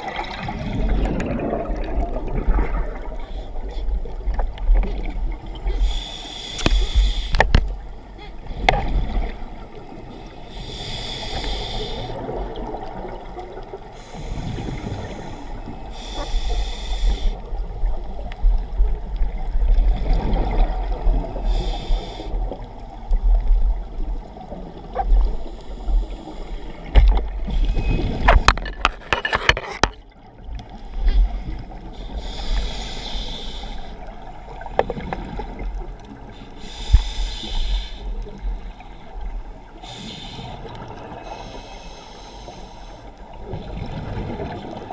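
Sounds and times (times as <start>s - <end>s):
low rumble of water: 0.0s - 44.9s.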